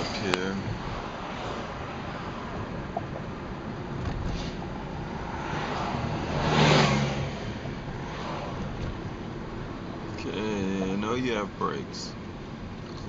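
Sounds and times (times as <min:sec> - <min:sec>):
bus passing: 0:00.0 - 0:12.8
road and engine noise inside car: 0:00.0 - 0:13.0.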